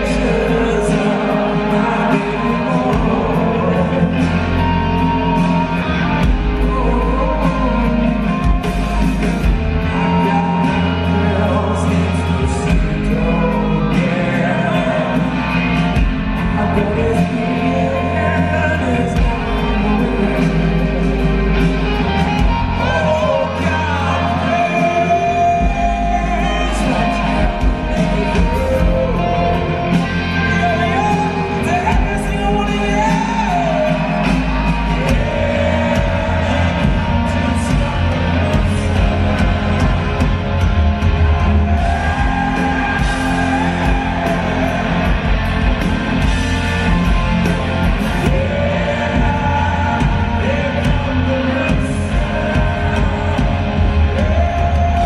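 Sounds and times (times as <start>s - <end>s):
bass guitar: 0.0s - 55.0s
distorted electric guitars: 0.0s - 55.0s
drums: 0.0s - 55.0s
man singing: 0.0s - 55.0s.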